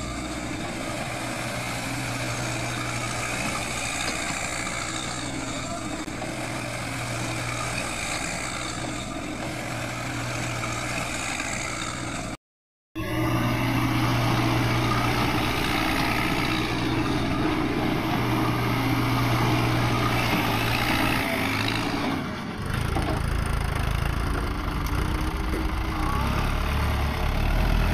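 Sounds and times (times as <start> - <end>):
diesel engine running: 0.0 - 12.4, 13.0 - 27.9.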